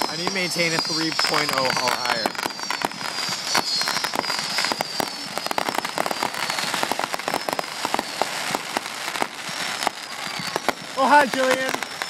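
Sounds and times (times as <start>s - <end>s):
fireworks crackling: 0.0s - 12.0s
high whistle falling in pitch: 0.0s - 12.0s.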